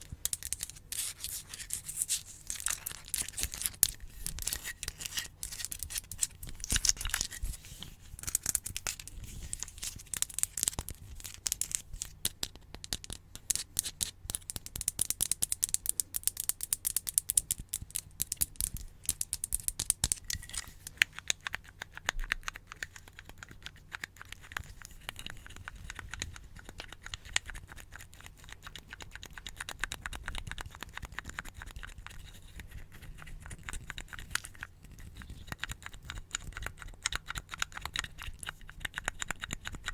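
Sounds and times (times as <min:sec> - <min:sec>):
rapid scratching and crinkling: 0:00.0 - 0:14.8, 0:17.3 - 0:39.9.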